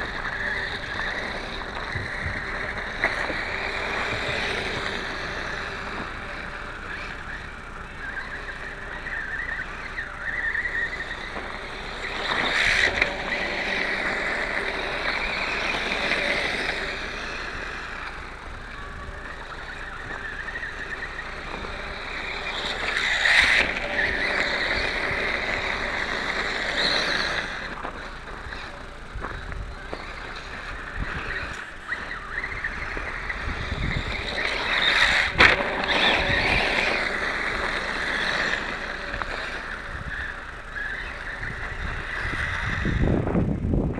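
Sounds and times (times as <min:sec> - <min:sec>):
toy motorcycle motor whining: 0:00.0 - 0:43.9.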